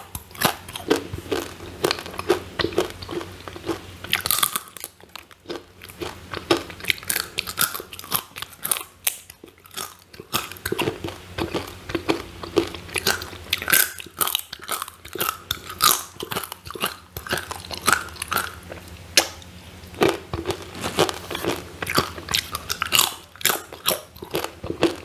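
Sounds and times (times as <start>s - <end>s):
crunching crispy chips: 0.0s - 25.0s.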